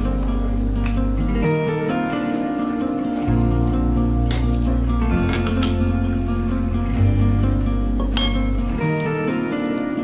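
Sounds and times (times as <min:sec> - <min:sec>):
calm plucked guitar music: 0:00.0 - 0:10.0.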